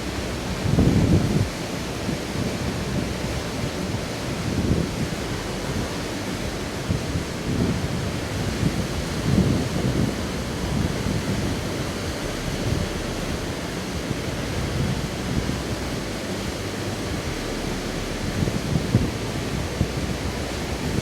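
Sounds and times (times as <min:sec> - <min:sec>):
waterfall rushing: 0:00.0 - 0:21.0
wind buffeting microphone: 0:00.0 - 0:21.0.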